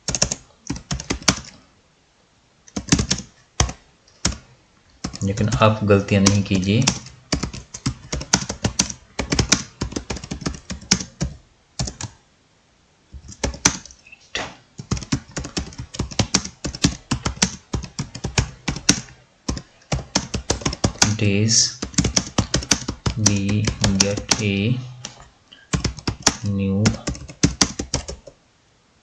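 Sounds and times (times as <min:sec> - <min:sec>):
laptop keyboard typing: 0:00.0 - 0:01.6, 0:02.7 - 0:12.2, 0:13.2 - 0:14.0, 0:14.8 - 0:28.4.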